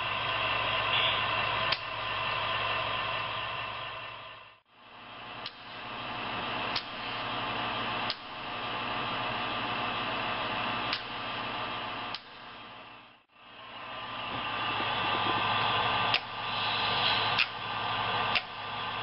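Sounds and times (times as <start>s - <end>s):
model train engine drone: 0.0s - 19.0s.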